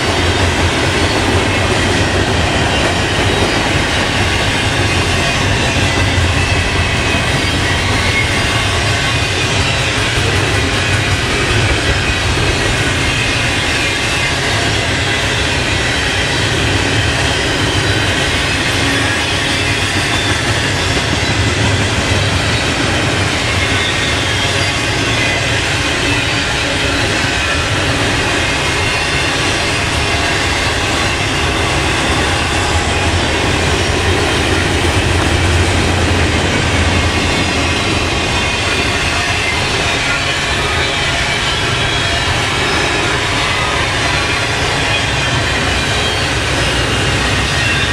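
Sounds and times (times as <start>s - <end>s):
freight train wheels rumbling on rails: 0.0s - 47.9s.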